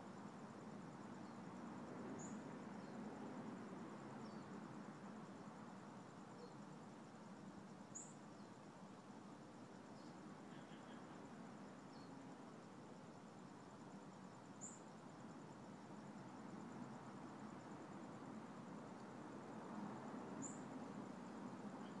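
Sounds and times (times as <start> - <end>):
low background noise: 0.0 - 22.0.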